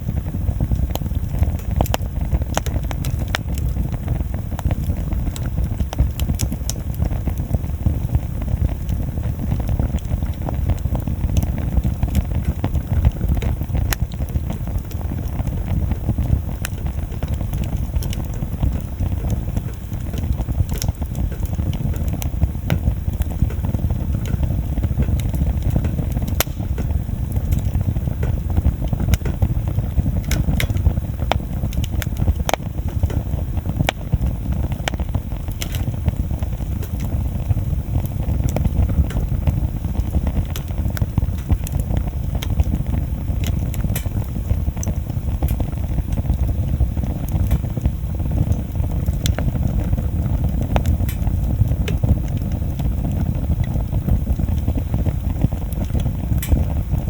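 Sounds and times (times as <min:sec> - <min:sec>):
bonfire low rumble: 0:00.0 - 0:57.0
burning wood crackling and popping: 0:00.0 - 0:57.0.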